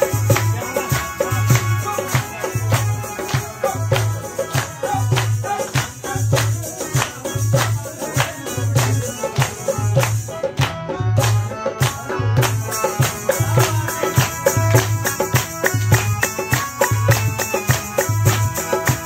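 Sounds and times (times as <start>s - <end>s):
barrel drum beat: 0.0s - 19.0s
harmonium chords: 0.0s - 19.0s
people clapping: 0.0s - 19.0s.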